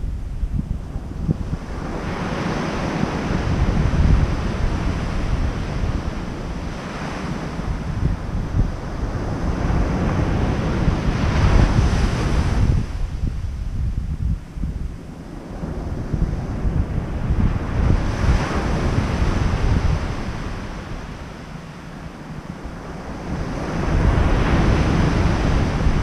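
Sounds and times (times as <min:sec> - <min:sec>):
wind buffeting microphone: 0:00.0 - 0:26.0
ocean surf breaking on beach: 0:00.1 - 0:26.0.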